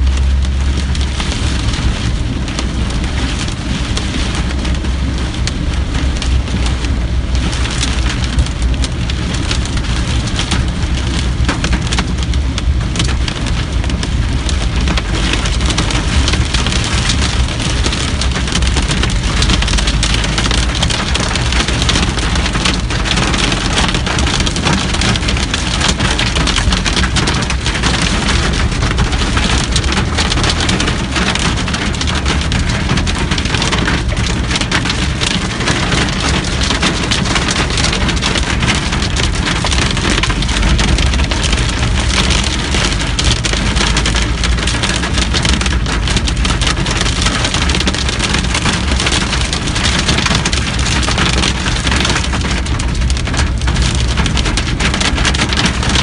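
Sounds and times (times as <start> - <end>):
car driving through water: 0.0 - 56.0
rain and hail on car roof: 0.0 - 56.0.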